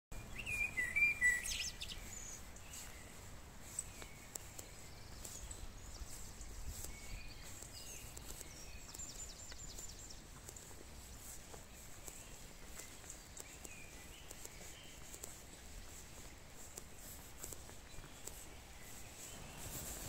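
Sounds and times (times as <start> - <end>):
birds chirping: 0.1 - 20.0.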